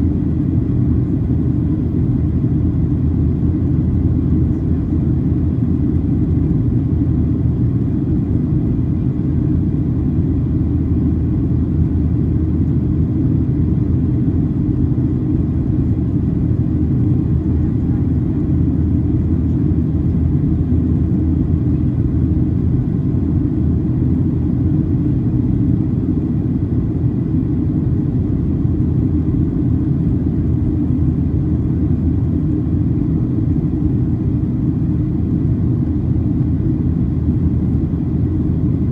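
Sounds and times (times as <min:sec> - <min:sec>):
jet engine noise: 0:00.0 - 0:38.9.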